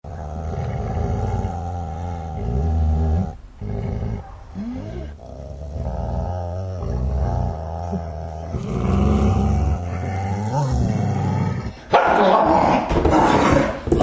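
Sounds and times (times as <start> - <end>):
dog growling: 0.0 - 14.0.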